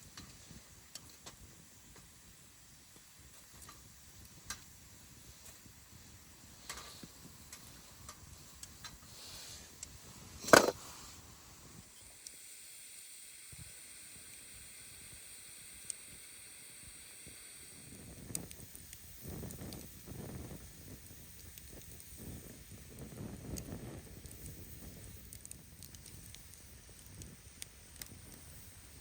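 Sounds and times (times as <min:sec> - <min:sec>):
small fire crackles: 0:00.0 - 0:29.0
steady hiss: 0:00.0 - 0:29.0.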